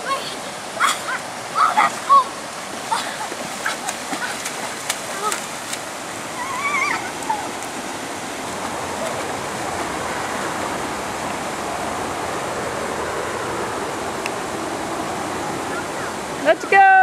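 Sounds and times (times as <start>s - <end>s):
small waterfall rushing into pool: 0.0s - 17.0s.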